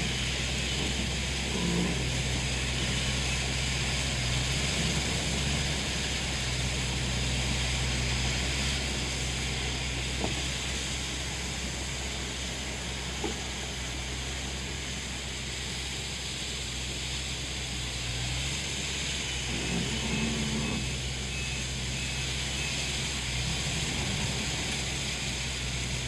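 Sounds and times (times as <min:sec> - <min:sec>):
harvester engine hum: 0:00.0 - 0:26.0
steady hiss: 0:00.0 - 0:26.0.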